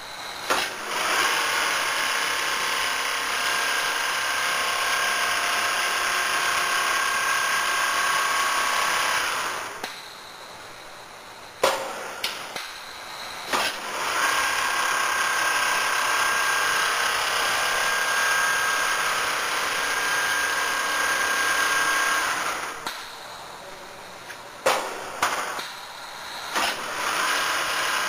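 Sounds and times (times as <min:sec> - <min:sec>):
quilting machine whirring: 0:00.0 - 0:10.4, 0:11.9 - 0:23.6, 0:24.8 - 0:28.0.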